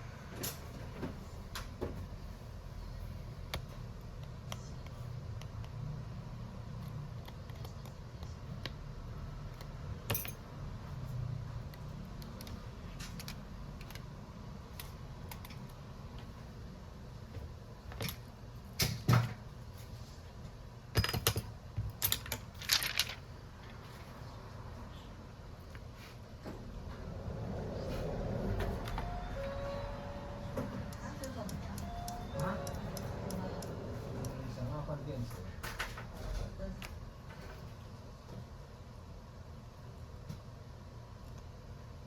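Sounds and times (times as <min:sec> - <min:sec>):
low room hum: 0:00.0 - 0:42.0.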